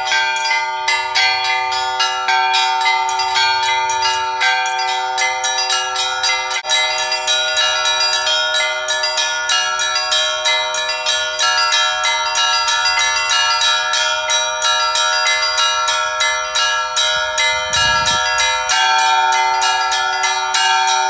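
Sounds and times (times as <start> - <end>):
church bells pealing: 0.0 - 21.0.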